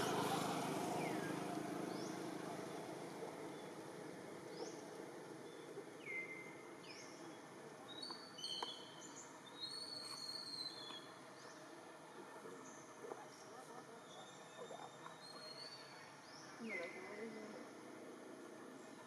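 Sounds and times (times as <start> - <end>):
faint outdoor background: 0.0 - 19.0.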